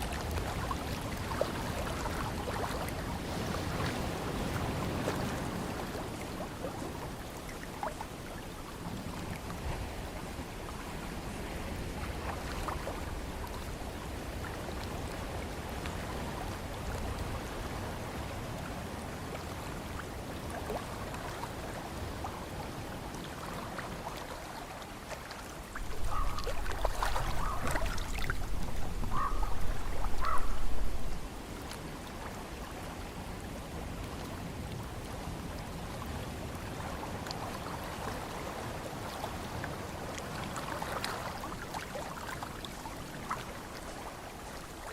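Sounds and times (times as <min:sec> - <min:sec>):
wind and water rushing: 0:00.0 - 0:44.9.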